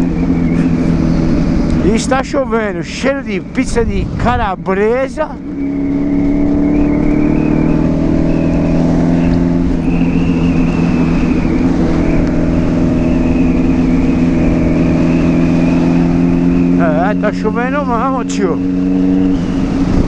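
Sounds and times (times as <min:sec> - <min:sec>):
wind rumble on microphone: 0:00.0 - 0:16.8, 0:18.6 - 0:20.0
motorcycle engine cruising: 0:00.0 - 0:20.0.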